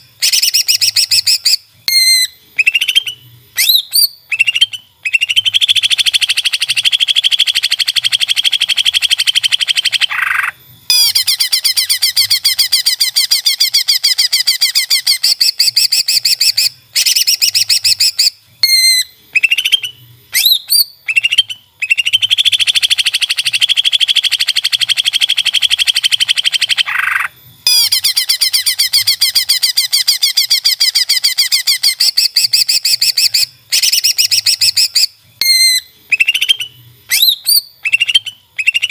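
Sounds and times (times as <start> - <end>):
bird singing fast trills: 0.0 - 38.9.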